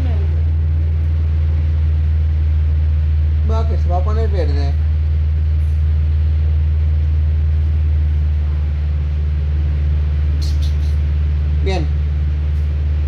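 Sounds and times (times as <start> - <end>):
tram interior hum and rumble: 0.0 - 13.0.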